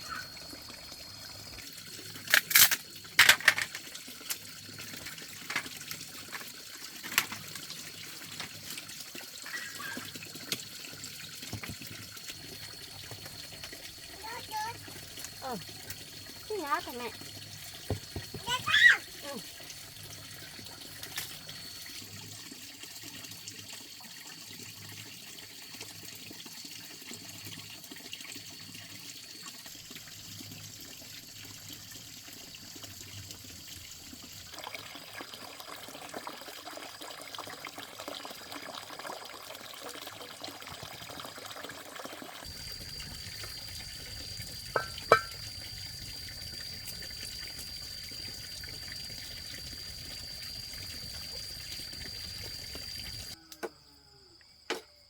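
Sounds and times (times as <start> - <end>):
water trickling and splashing: 0.0 - 53.5.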